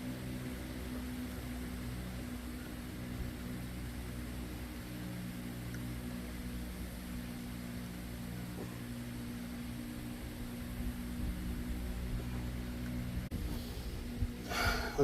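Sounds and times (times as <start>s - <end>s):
constant hiss: 0.0s - 15.0s
low mechanical hum: 0.0s - 15.0s.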